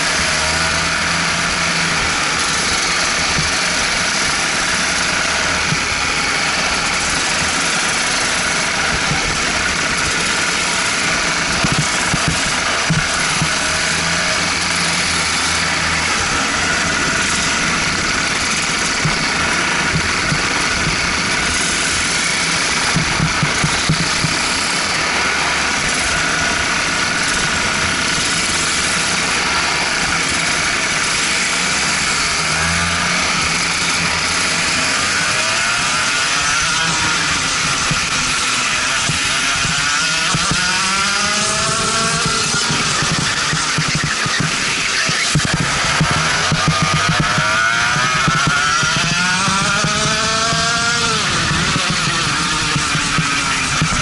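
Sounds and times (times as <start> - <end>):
kart engines running: 0.0 - 54.0.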